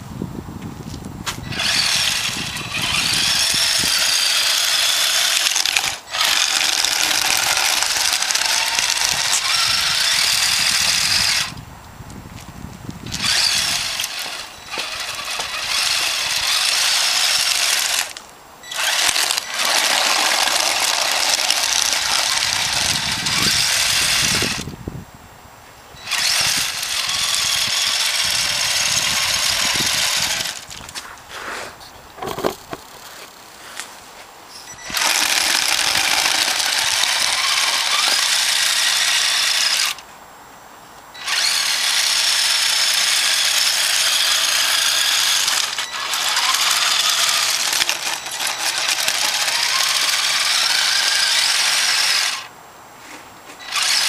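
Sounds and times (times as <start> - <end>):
toy truck motor whining: 1.4 - 11.6, 13.0 - 24.7, 26.0 - 30.8, 34.6 - 40.0, 41.2 - 52.5, 53.6 - 54.0.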